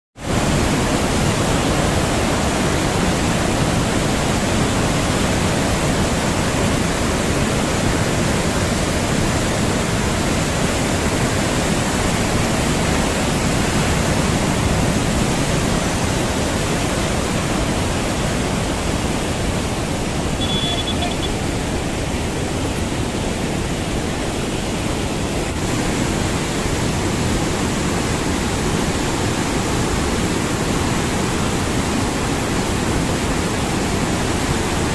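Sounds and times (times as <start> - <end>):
floodwater rushing: 0.2 - 34.9.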